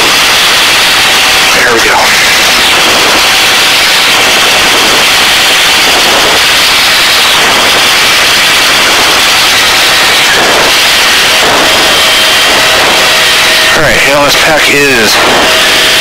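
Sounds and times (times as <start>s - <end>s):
helicopter noise over intercom: 0.0s - 16.0s.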